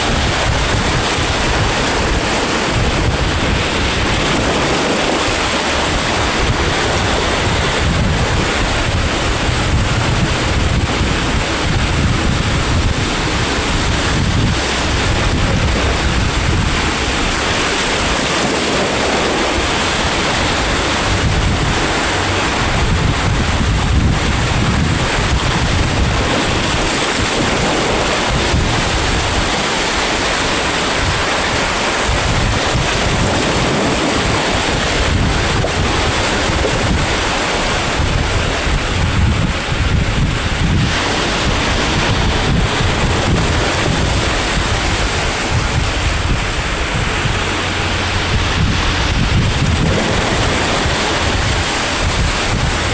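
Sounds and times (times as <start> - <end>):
sea waves washing onto shore: 0.0 - 52.9
wind buffeting microphone: 0.0 - 52.9.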